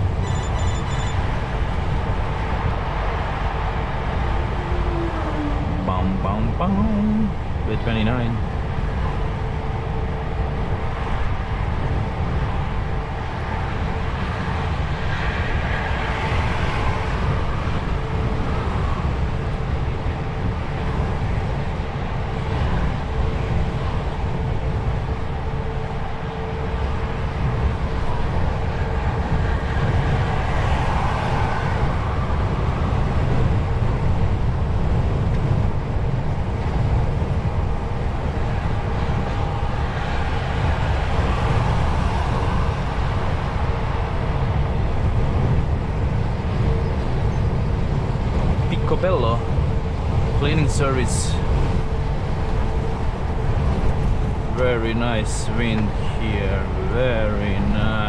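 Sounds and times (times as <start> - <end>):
truck engine and tyres rumbling: 0.0 - 58.0.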